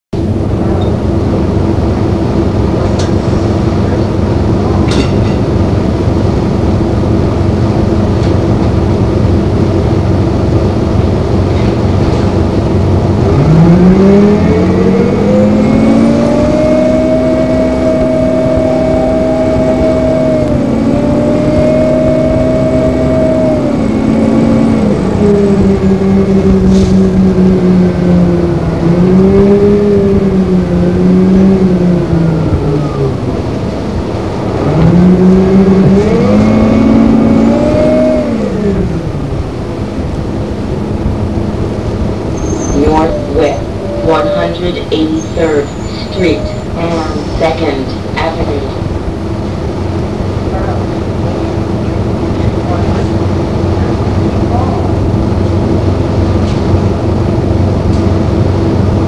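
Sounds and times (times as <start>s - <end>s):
bus cooling fan drone: 0.1s - 59.0s
diesel engine: 0.1s - 59.0s
whining tone: 0.2s - 59.0s.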